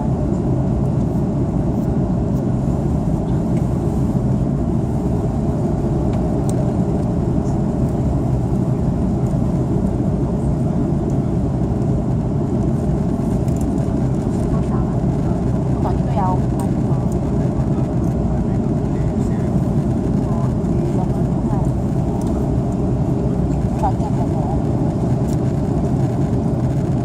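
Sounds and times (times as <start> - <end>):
airplane cabin engine roar: 0.0 - 27.0.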